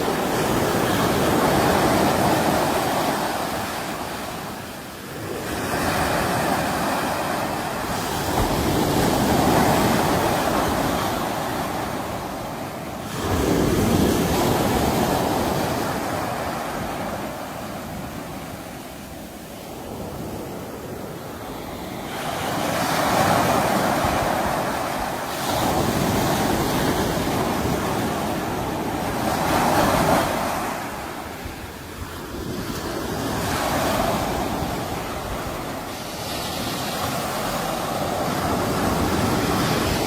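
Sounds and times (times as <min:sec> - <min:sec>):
sea waves breaking on shore: 0:00.0 - 0:40.0.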